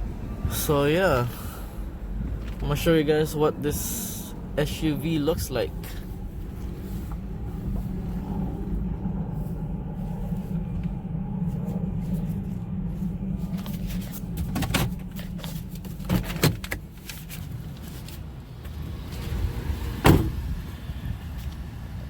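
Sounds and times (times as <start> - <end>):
low rumble: 0.0 - 16.1, 16.8 - 22.0.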